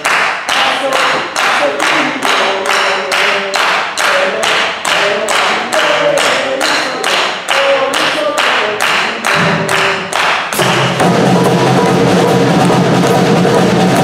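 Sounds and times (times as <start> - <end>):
group clapping in unison: 0.0 - 14.0.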